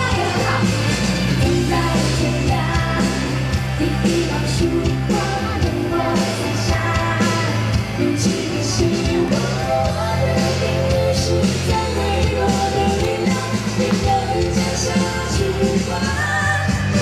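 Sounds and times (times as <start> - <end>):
bass guitar: 0.0 - 17.0
drums: 0.0 - 17.0
electric guitar: 0.0 - 17.0
person singing: 0.0 - 17.0.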